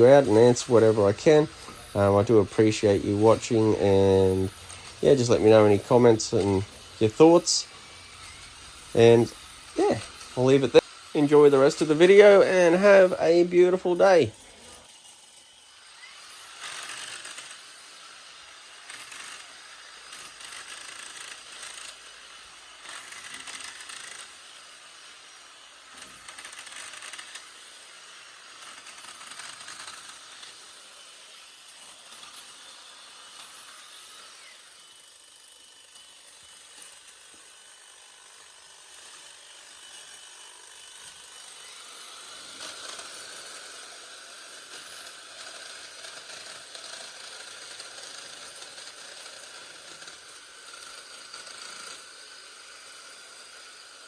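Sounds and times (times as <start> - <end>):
hedge trimmer cutting branches: 0.0 - 54.0.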